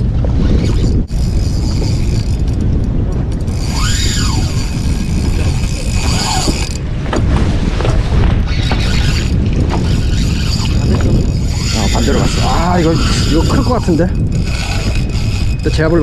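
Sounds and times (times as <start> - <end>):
strong wind on microphone: 0.0 - 16.0
fishing reel whirring: 0.4 - 6.8, 8.4 - 16.0.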